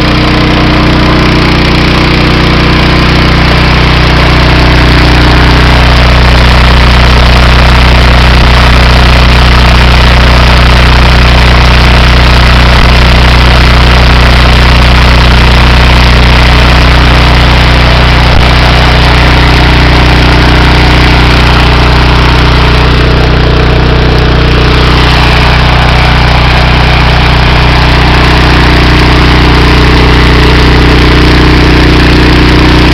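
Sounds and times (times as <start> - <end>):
pressure washer engine running: 0.0 - 32.9.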